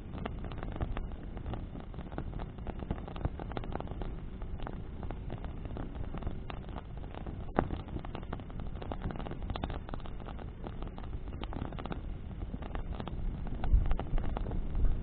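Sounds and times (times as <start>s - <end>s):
bonfire crackling and popping: 0.0s - 15.0s
low rumble of wind-blown flames: 0.0s - 15.0s.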